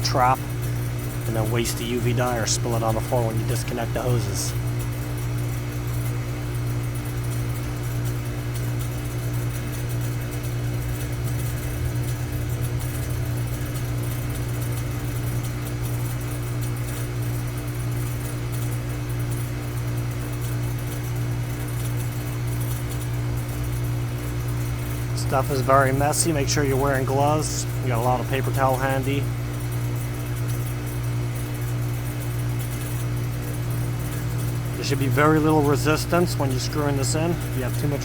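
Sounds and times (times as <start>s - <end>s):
air conditioning unit humming: 0.0s - 38.0s.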